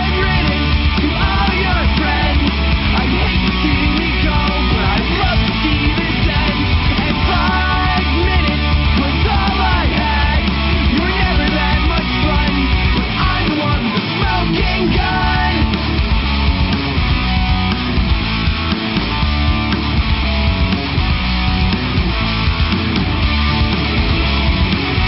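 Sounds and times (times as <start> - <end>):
loud rock music: 0.0 - 25.0.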